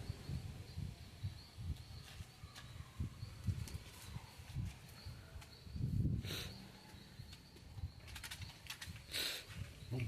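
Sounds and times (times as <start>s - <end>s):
low wind rumble on microphone: 0.0s - 10.0s
night insects chirping: 0.0s - 10.0s.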